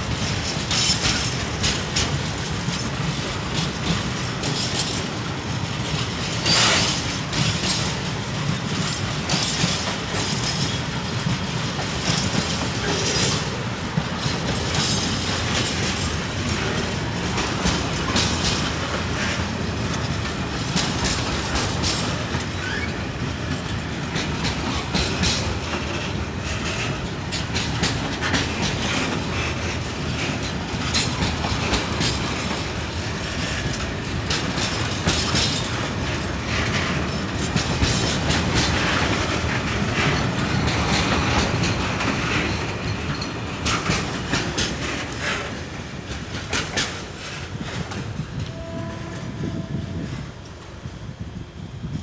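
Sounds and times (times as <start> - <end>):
wheels clacking over rail joints: 0.0 - 50.9
freight train wheels rumbling: 0.0 - 52.0.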